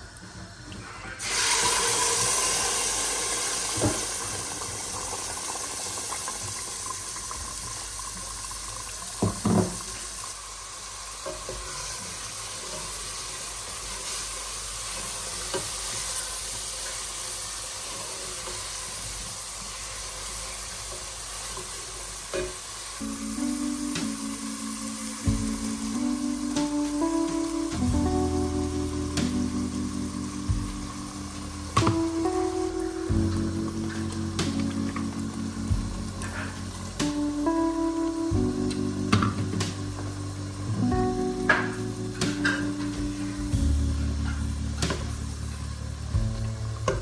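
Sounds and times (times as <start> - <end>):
food sizzling in a pot: 0.0 - 47.0.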